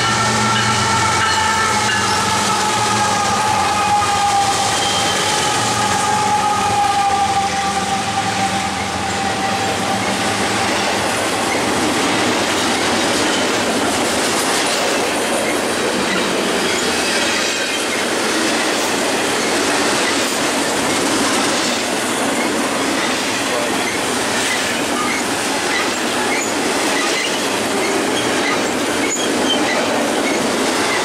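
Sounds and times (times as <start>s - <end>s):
diesel locomotive engine hum: 0.0s - 31.0s
rail cars rumbling and clattering: 0.0s - 31.0s.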